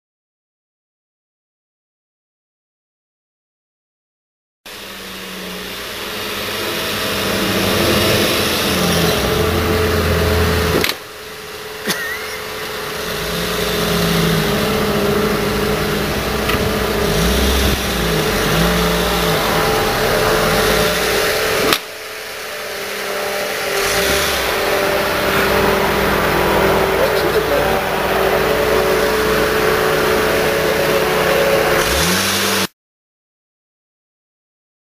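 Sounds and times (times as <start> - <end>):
car engine revving: 4.7 - 32.7.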